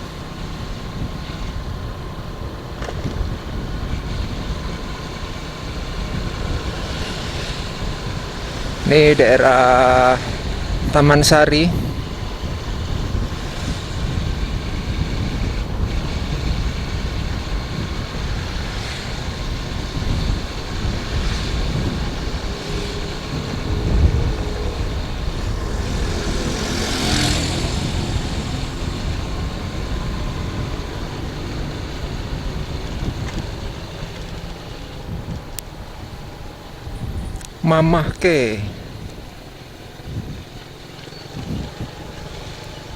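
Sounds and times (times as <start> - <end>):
vehicle engine rumbling: 0.0 - 42.9.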